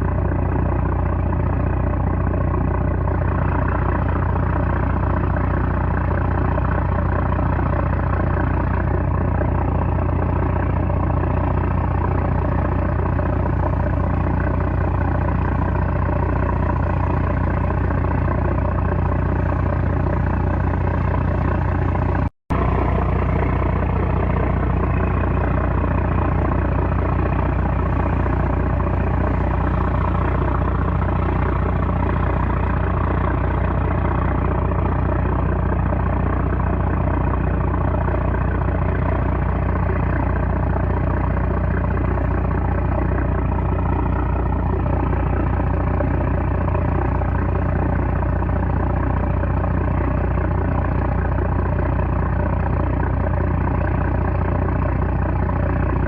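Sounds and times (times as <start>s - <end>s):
boat diesel engine drone: 0.0s - 56.0s.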